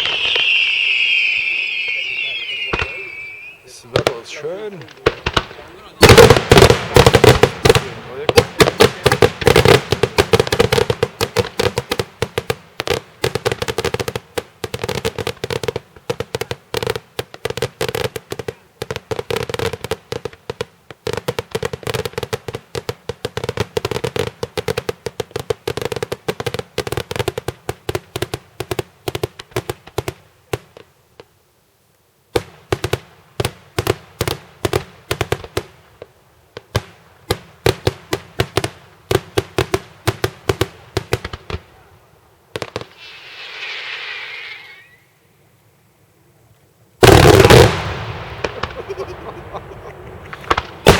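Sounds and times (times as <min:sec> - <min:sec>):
fireworks bangs: 0:00.0 - 0:30.9, 0:32.3 - 0:41.9, 0:42.5 - 0:45.0, 0:47.0 - 0:50.9.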